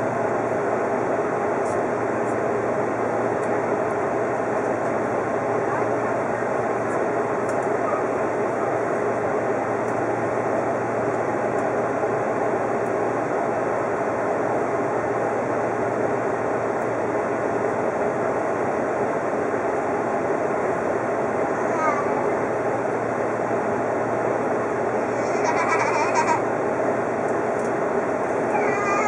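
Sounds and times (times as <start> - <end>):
train running at speed: 0.0 - 29.0.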